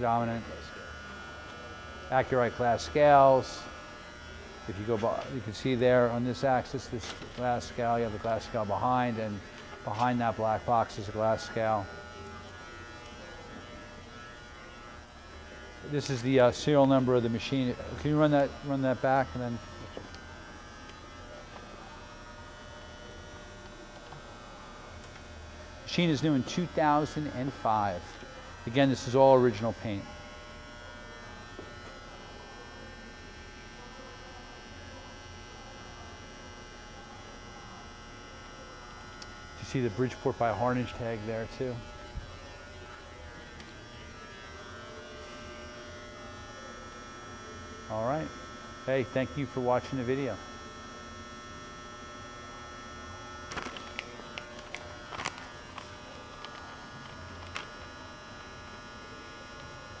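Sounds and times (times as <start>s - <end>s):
electrical hum: 0.0s - 60.0s
faint steady machine tones: 0.0s - 60.0s.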